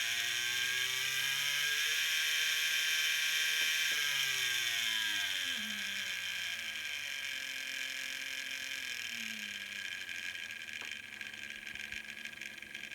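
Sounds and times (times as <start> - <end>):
model train motor whirring: 0.0 - 12.9.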